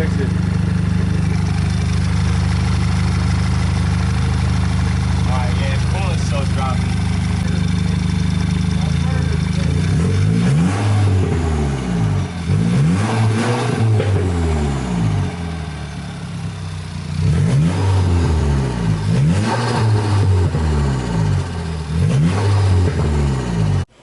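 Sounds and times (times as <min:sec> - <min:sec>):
turbocharged car engine revving: 0:00.0 - 0:24.0.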